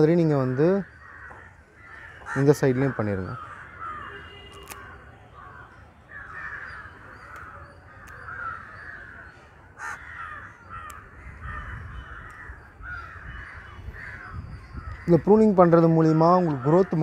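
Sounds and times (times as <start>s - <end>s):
crows cawing: 0.0s - 17.0s.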